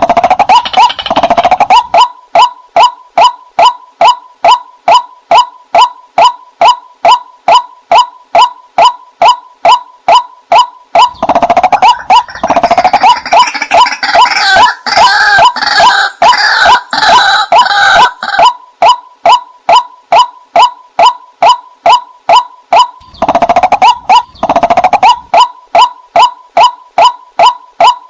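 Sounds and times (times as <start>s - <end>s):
waterhen calling: 0.0s - 6.8s, 9.2s - 18.6s, 19.7s - 28.0s.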